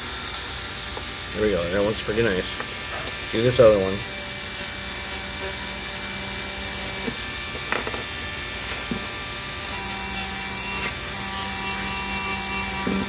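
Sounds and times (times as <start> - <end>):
rotary tool wire brush grinding: 0.0 - 13.0.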